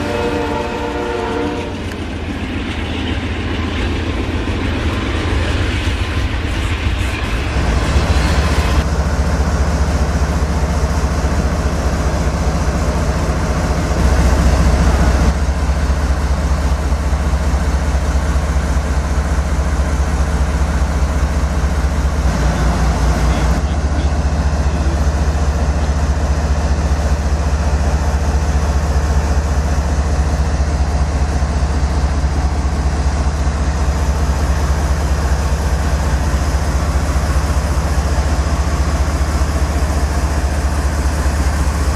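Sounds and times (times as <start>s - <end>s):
diesel locomotive idling: 0.0s - 41.9s.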